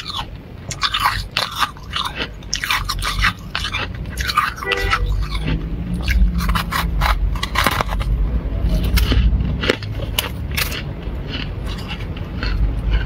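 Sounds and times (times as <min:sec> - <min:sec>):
freezer frost crunching: 0:00.0 - 0:13.0
steady low hum: 0:00.0 - 0:13.0.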